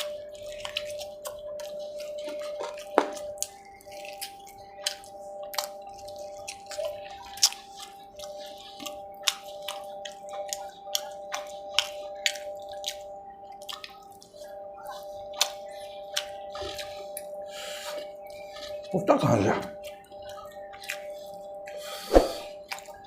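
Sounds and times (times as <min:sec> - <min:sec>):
chewing and lip-smacking: 0:00.0 - 0:23.0.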